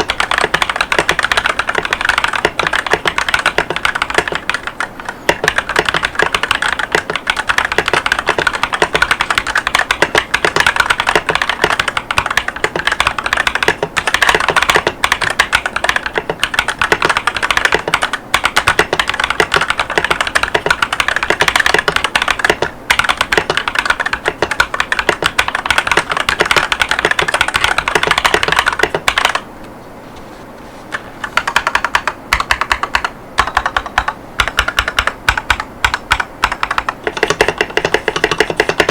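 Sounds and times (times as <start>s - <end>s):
mechanical keyboard typing: 0.0s - 29.4s, 30.9s - 38.9s.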